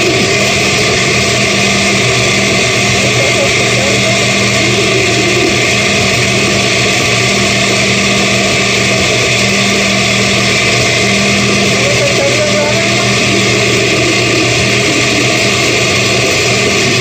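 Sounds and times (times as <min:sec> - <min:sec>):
blender motor running: 0:00.0 - 0:17.0.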